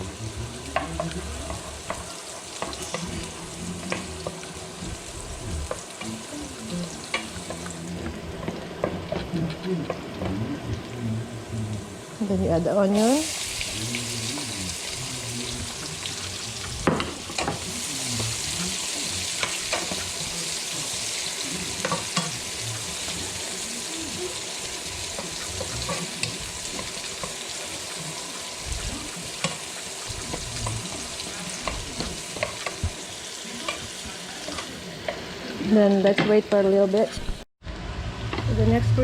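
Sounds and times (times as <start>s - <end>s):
garlic and onion sizzling in oil: 0.0s - 39.0s.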